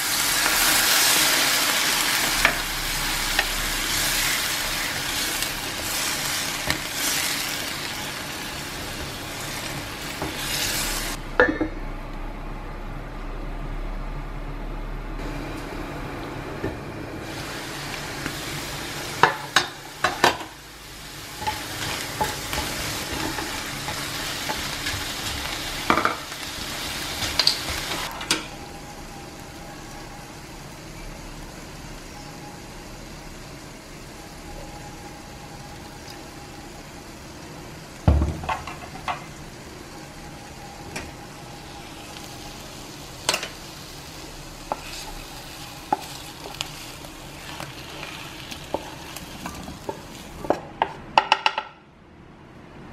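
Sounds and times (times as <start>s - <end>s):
food sizzling in a frying pan: 0.0s - 11.5s, 17.2s - 50.6s
quiet steady hum: 0.0s - 52.9s.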